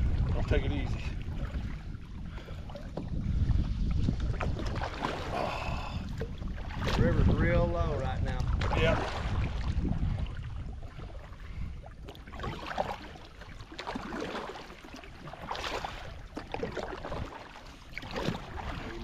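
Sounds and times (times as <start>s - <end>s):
paddle splashing water: 0.0s - 19.0s
wind rumbling on microphone: 0.0s - 19.0s.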